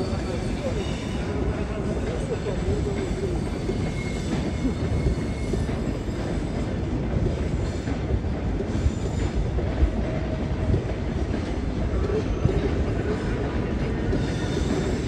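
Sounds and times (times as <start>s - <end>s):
train rumbling at low speed: 0.0s - 15.0s.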